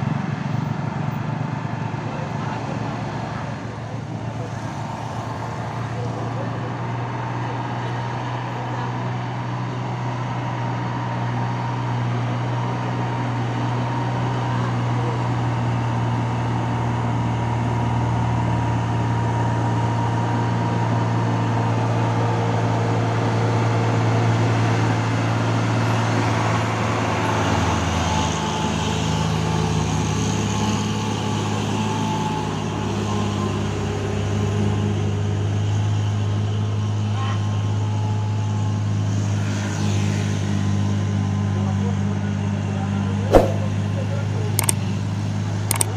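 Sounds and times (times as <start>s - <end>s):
road traffic noise: 0.0s - 45.9s.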